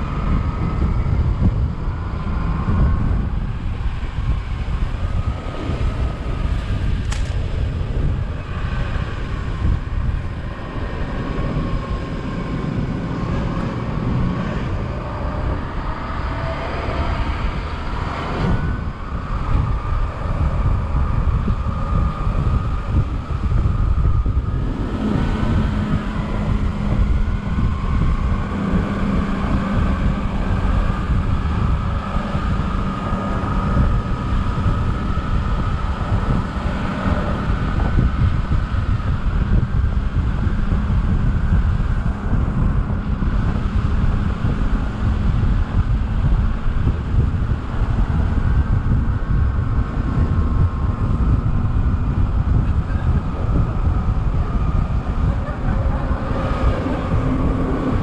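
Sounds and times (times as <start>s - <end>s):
bus engine drone: 0.0s - 58.0s
wind buffeting microphone: 0.0s - 58.0s.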